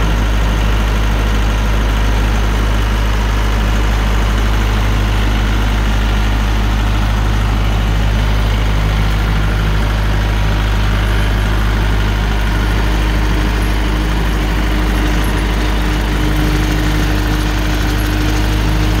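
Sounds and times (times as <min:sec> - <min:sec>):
tractor diesel engine running: 0:00.0 - 0:19.0
steady higher hum: 0:02.1 - 0:19.0.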